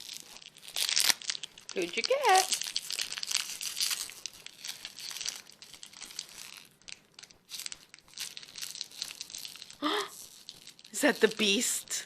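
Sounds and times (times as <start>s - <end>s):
packaging crinkling and tearing: 0.0s - 11.9s.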